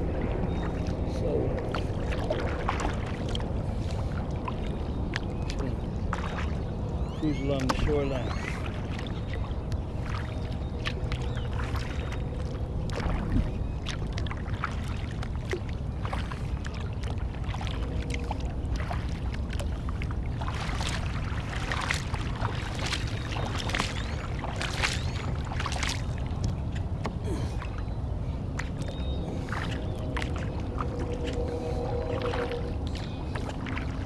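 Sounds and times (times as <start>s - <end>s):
steady low rumble: 0.0s - 34.0s
paddle splashing in water: 0.1s - 6.7s, 7.4s - 34.0s.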